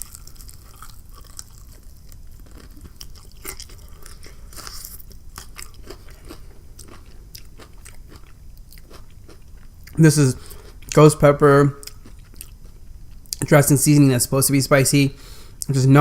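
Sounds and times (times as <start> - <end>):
chewing crispy fried food: 0.0 - 13.4.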